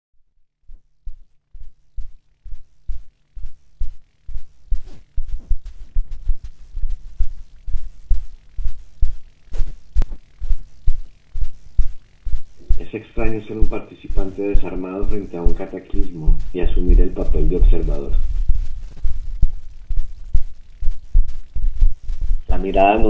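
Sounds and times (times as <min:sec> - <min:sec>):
low steady hum: 0:00.3 - 0:23.0
low heartbeat-like thumps: 0:00.7 - 0:23.0.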